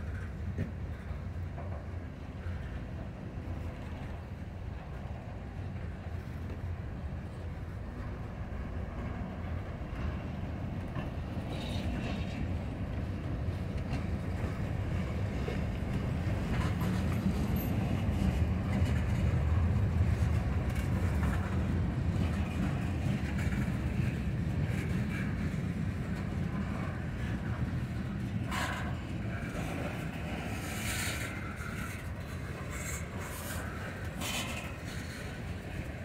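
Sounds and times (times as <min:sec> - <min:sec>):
steel wheels rumbling over rails: 0:00.0 - 0:36.0.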